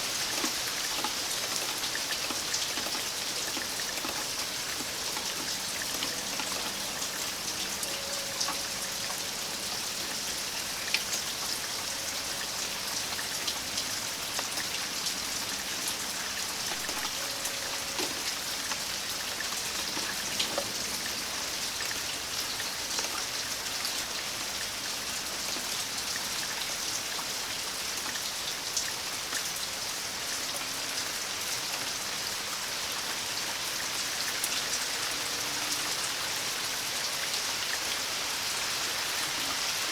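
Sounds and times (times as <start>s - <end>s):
raindrops tapping on surfaces: 0.0s - 39.9s
steady rain hiss: 0.0s - 39.9s.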